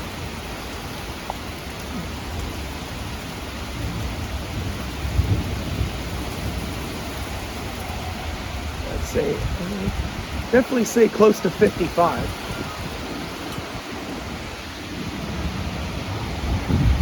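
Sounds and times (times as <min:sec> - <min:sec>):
deep thunder rumble: 0:00.0 - 0:17.0
heavy rain pouring: 0:00.0 - 0:17.0
strong wind gusts: 0:00.0 - 0:17.0.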